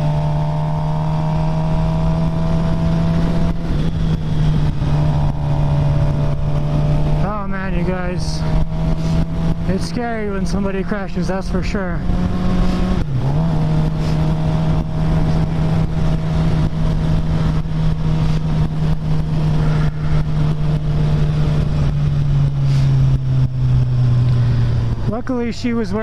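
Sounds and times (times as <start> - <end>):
wind rush: 0.0 - 10.2, 11.5 - 25.2
motorcycle engine cruising: 0.0 - 26.0.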